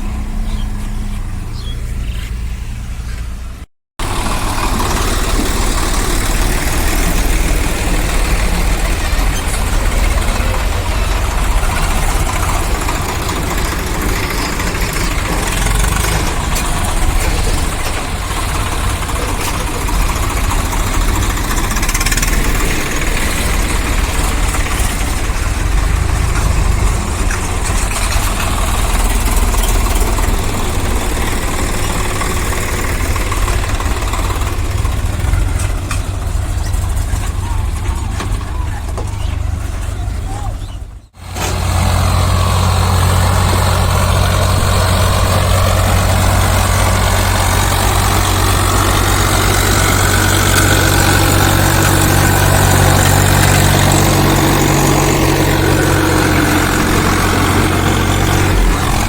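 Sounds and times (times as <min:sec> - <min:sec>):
large diesel engine running: 0:00.0 - 0:59.0.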